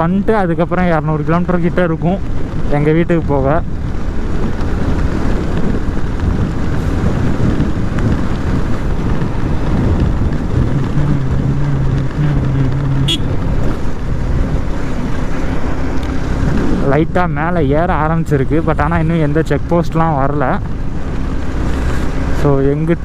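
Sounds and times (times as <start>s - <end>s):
wind rushing over microphone: 0.0s - 23.0s
motorcycle engine running: 3.4s - 23.0s.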